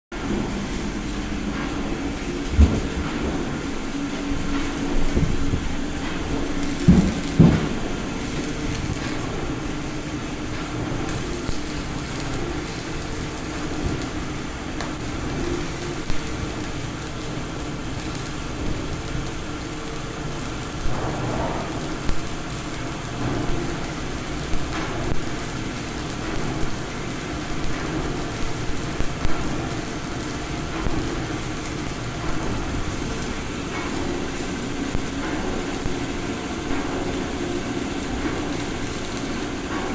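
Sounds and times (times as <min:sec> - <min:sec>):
machine hum: 0:00.1 - 0:39.9
welding crackling hiss: 0:00.2 - 0:39.9.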